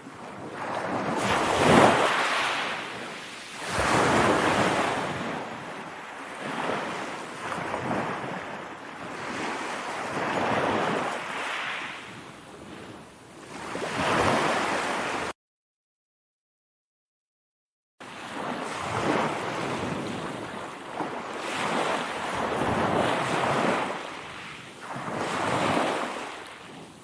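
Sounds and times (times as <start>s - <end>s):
ocean waves breaking: 0.0s - 15.3s, 18.0s - 27.0s.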